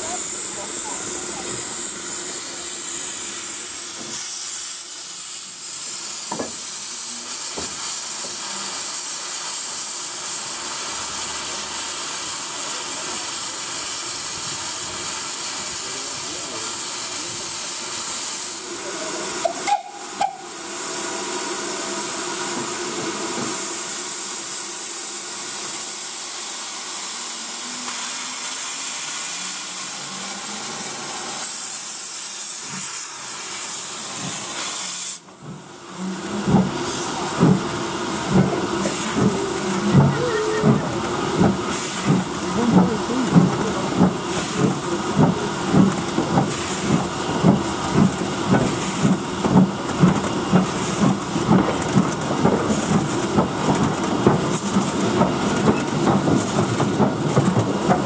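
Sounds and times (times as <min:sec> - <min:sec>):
steam hissing from locomotive: 0:00.0 - 0:58.0.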